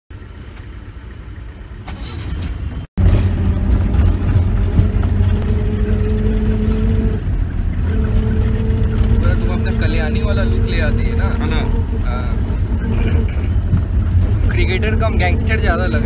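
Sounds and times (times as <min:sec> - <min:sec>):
car engine and road noise: 0:00.1 - 0:16.0.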